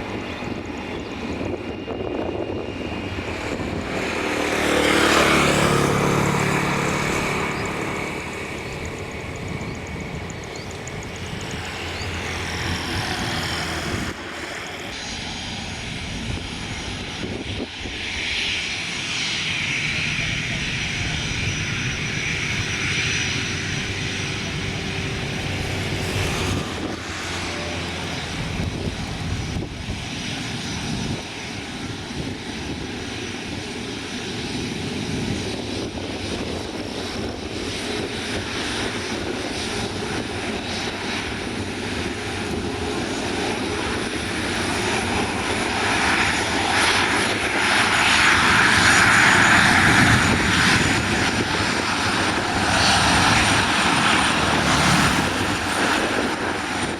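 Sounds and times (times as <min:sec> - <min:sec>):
airliner engines: 0:00.0 - 0:56.9.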